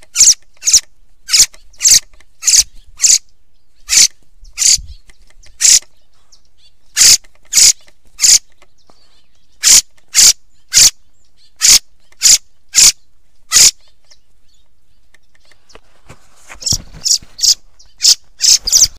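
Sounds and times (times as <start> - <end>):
high sharp bird lure calls: 0.0 - 15.9, 16.6 - 18.9.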